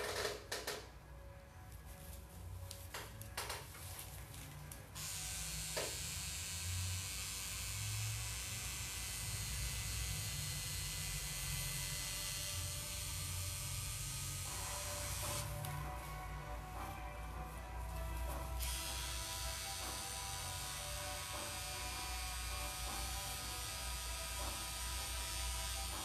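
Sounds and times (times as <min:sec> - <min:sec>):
tattoo machine running: 0:05.0 - 0:26.0.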